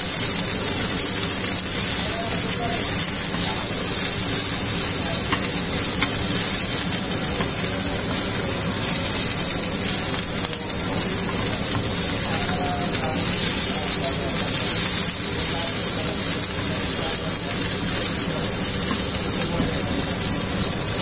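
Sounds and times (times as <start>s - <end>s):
chillies sizzling in hot oil: 0.0s - 21.0s.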